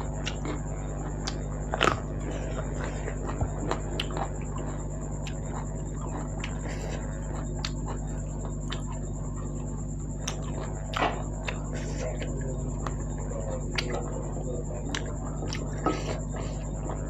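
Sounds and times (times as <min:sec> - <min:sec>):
person chewing and smacking: 0:00.0 - 0:17.0
steady background hum: 0:00.0 - 0:17.0.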